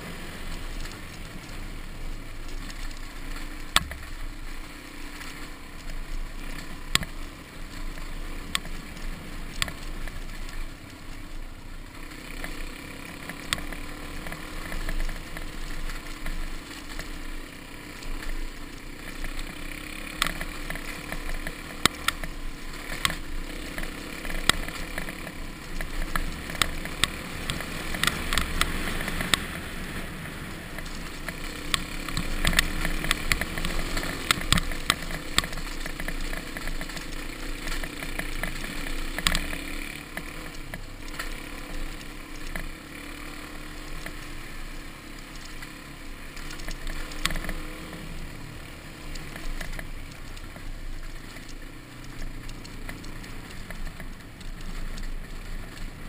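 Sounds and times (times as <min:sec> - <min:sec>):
dirt bike engine running: 0:00.0 - 0:56.0
wind and road noise: 0:00.0 - 0:56.0.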